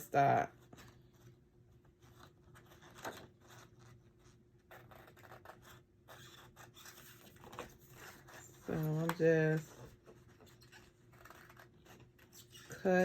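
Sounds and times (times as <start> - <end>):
paper scraping: 2.0 - 13.0.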